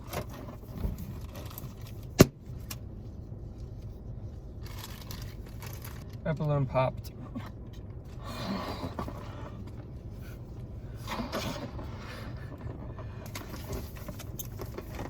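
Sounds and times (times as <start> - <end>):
rustling and scraping handling noises: 0.0 - 6.2, 8.7 - 15.0
low steady hum: 0.0 - 15.0.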